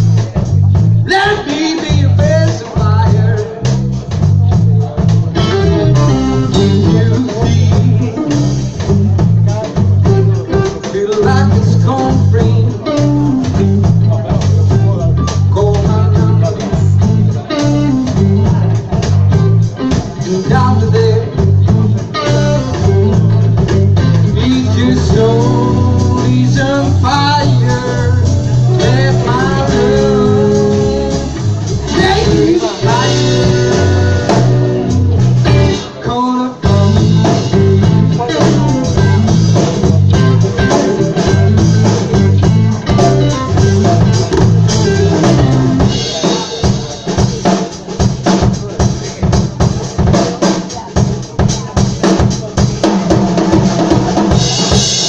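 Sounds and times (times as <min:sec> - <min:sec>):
bass line: 0:00.0 - 0:55.0
drums: 0:00.0 - 0:55.0
guitar lines: 0:00.0 - 0:55.0.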